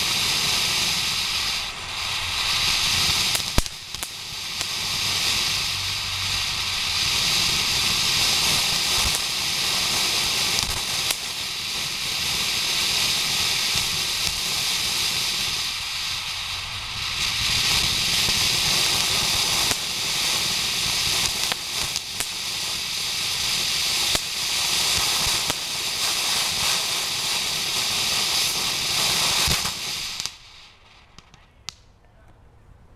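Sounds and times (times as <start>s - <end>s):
firework fountain hissing: 0.0s - 31.8s
firework crackling: 0.0s - 32.0s.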